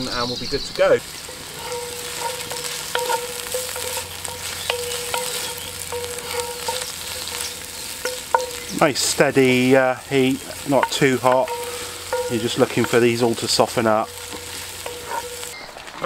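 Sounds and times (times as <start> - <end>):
vegetables sizzling in oil: 0.0 - 16.0
wooden spoon scraping pot: 1.0 - 15.6.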